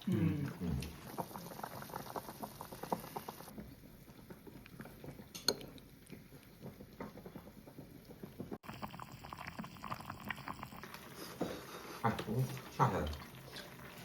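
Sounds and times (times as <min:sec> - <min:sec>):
broth bubbling: 0:00.0 - 0:14.0.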